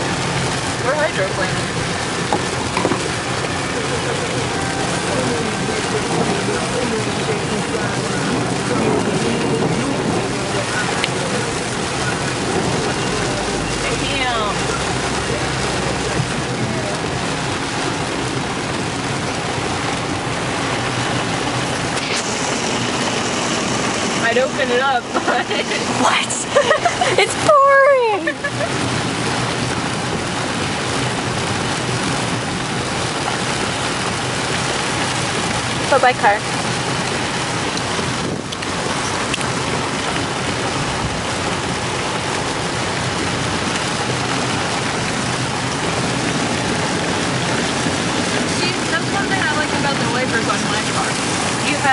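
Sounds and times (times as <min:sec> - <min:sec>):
rain hissing on car roof: 0:00.0 - 0:51.9
road and tyre noise: 0:00.0 - 0:51.9.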